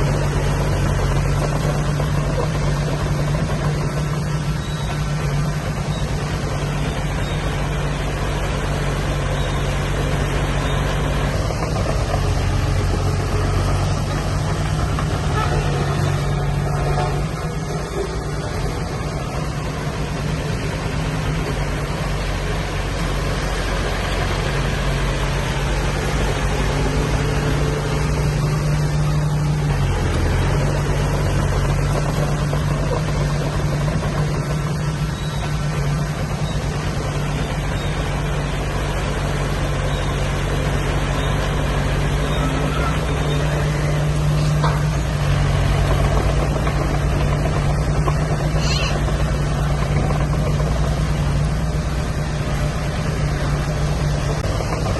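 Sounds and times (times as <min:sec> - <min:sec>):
heavy machinery diesel engine: 0:00.0 - 0:54.9.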